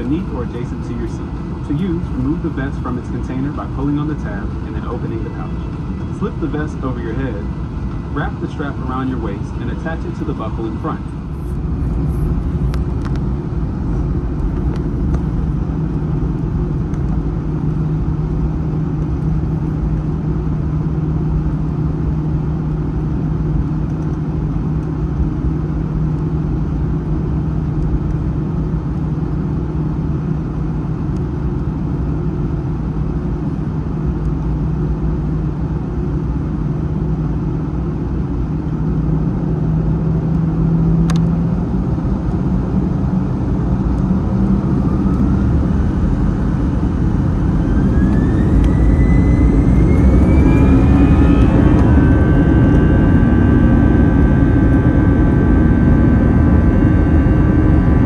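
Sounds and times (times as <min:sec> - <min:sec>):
jet engines rumbling inside cabin: 0:00.0 - 0:58.0.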